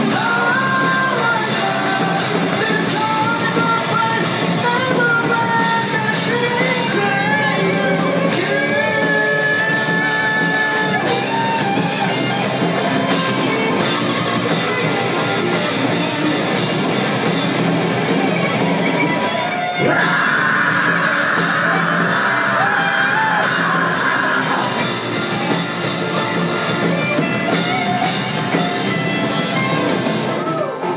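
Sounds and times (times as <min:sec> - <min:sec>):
rock band playing live: 0:00.0 - 0:30.9.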